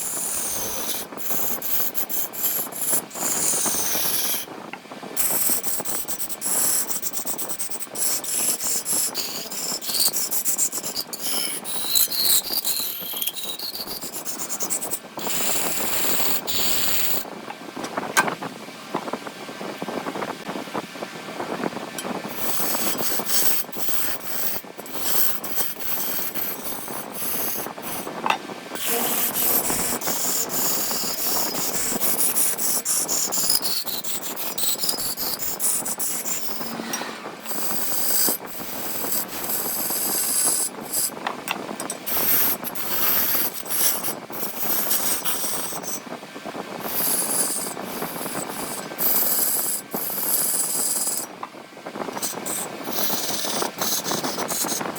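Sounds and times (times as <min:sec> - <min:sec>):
lathe tool scraping wood: 0:00.0 - 0:04.5, 0:05.2 - 0:17.3, 0:22.3 - 0:46.0, 0:46.8 - 0:51.3, 0:52.1 - 0:54.9.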